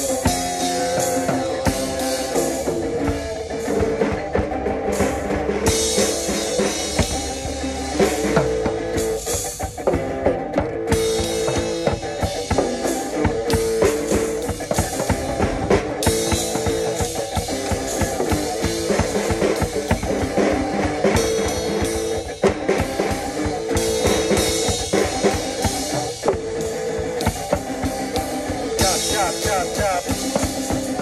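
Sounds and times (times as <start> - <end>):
acoustic guitar: 0.0 - 31.0
drum kit beat: 0.0 - 31.0.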